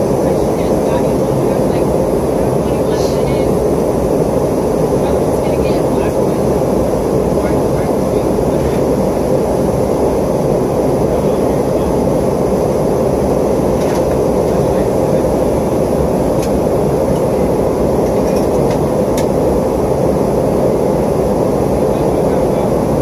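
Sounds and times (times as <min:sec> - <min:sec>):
airliner cabin engine roar: 0:00.0 - 0:23.0.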